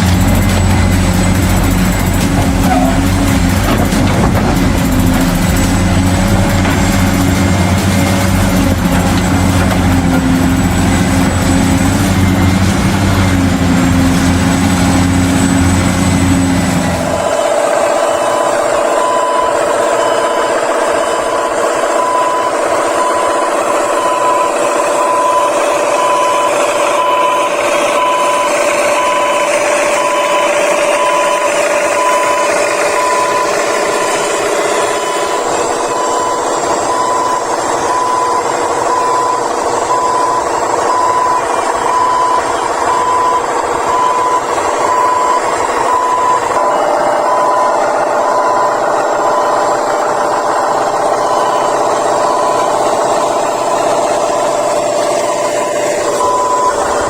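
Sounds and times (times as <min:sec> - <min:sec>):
reversing alarm beeps: 0:00.0 - 0:57.0.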